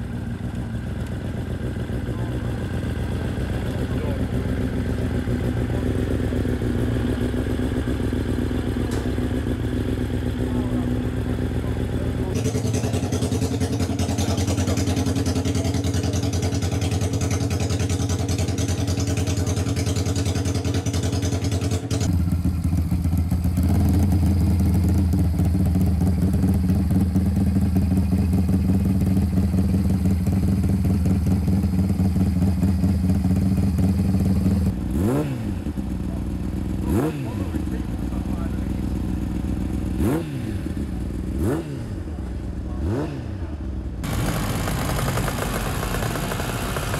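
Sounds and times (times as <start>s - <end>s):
motorcycle engine idling: 0.0s - 46.9s
motorcycle engine running: 0.0s - 46.9s.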